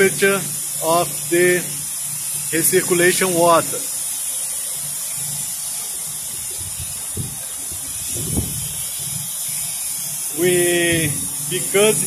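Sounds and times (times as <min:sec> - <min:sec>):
high-pitched plant hiss: 0:00.0 - 0:12.0.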